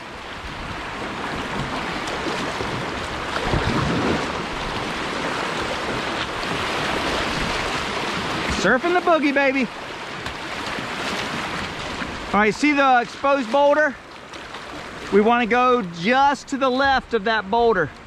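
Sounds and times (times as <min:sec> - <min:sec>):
roar of churning river rapids: 0:00.0 - 0:15.5.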